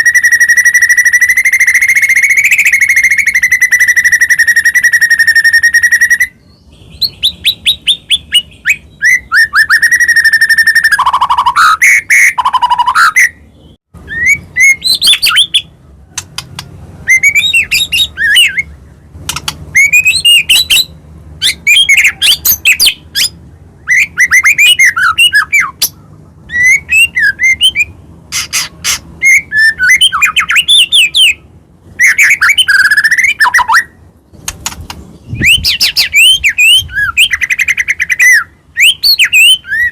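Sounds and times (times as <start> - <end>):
bird singing whistles and clicks: 0.0 - 6.3, 7.0 - 13.4, 14.1 - 31.4, 32.0 - 39.9.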